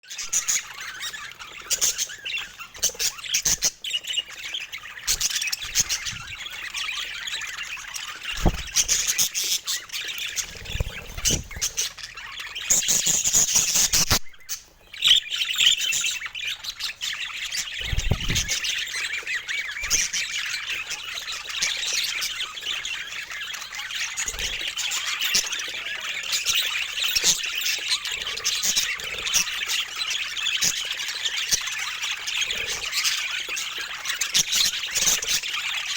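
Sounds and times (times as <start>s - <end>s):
budgerigars chattering and squawking: 0.1s - 35.9s.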